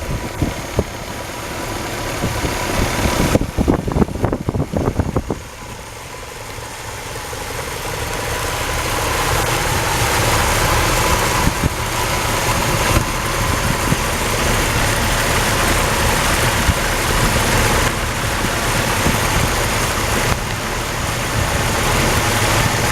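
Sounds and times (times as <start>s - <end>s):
pickup engine idling: 0.0s - 22.9s.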